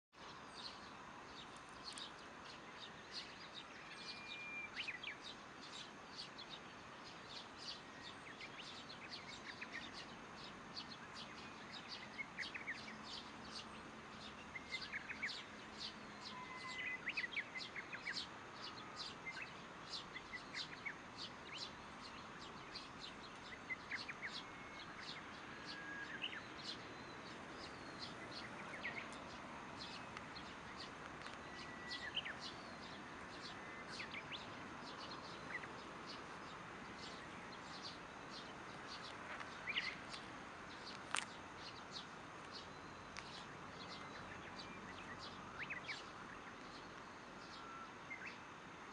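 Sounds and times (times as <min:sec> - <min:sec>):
small birds chirping: 0:00.2 - 0:48.9
steady outdoor hiss: 0:00.2 - 0:48.9.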